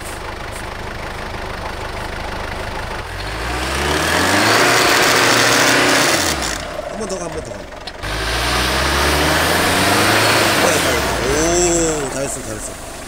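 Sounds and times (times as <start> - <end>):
engine idling and revving: 0.0 - 13.0
tyres churning snow: 0.0 - 13.0.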